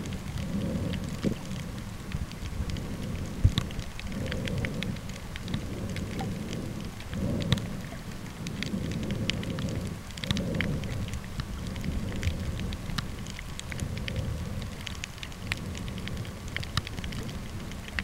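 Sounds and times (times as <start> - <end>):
low rumbling water wash: 0.0 - 18.0
underwater clicks crackling: 0.0 - 18.0.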